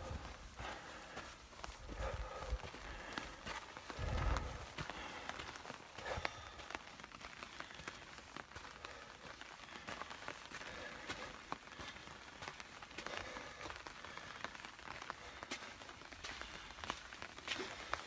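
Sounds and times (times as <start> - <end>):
soft rain hiss: 0.0 - 18.0
raindrops ticking: 0.2 - 18.0.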